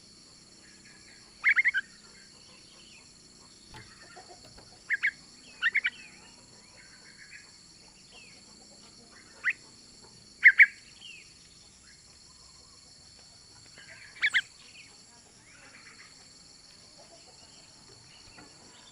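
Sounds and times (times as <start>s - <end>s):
high insect drone: 0.0s - 18.9s.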